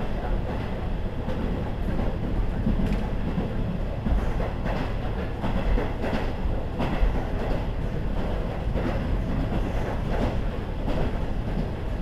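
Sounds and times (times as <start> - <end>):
rail noise: 0.0 - 12.0.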